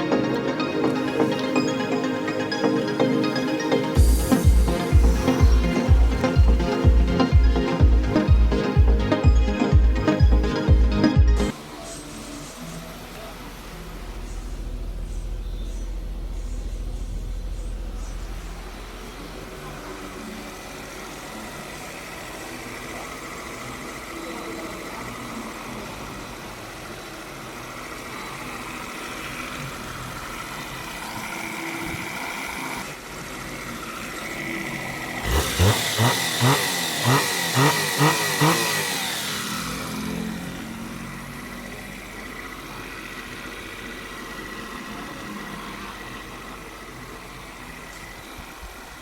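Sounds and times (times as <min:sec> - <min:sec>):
car engine running: 0:00.0 - 0:49.0
engine throttle blips: 0:00.0 - 0:49.0.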